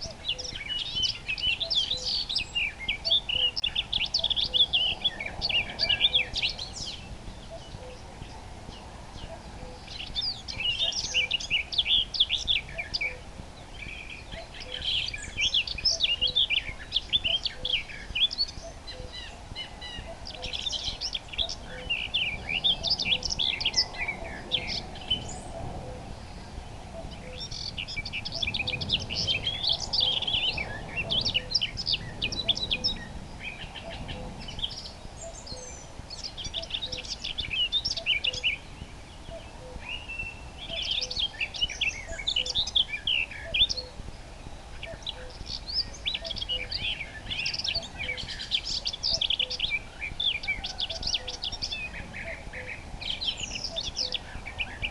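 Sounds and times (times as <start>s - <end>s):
nightingale singing: 0.0s - 54.9s.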